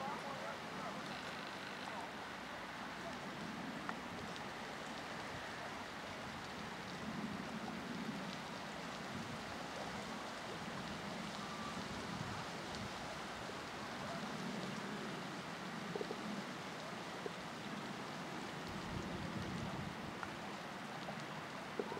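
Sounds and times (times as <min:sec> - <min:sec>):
rippling lake water: 0:00.0 - 0:21.9
wind: 0:00.0 - 0:21.9
faint ticks: 0:00.9 - 0:02.1, 0:02.9 - 0:13.2, 0:13.9 - 0:21.9.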